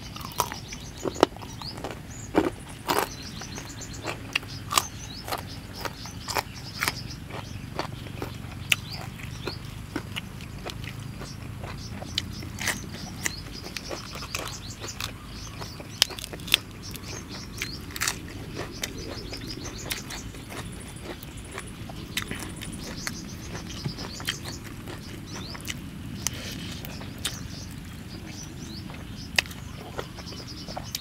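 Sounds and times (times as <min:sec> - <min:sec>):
crisp chewing crunches: 0:00.0 - 0:31.0.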